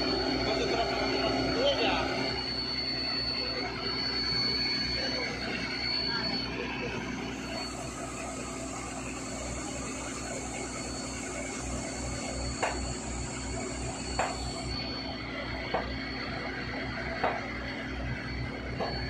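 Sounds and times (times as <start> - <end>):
excavator diesel engines rumbling: 0.0 - 19.0.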